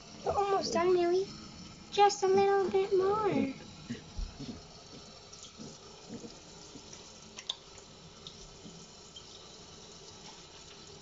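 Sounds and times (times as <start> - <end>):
faucet water into a metal sink: 0.0 - 11.0.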